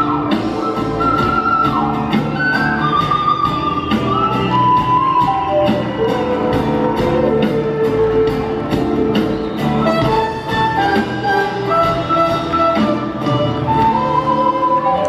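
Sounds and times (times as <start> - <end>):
drums steady beat: 0.0 - 15.0
live rock band: 0.0 - 15.0
wind instrument melody: 0.0 - 15.0.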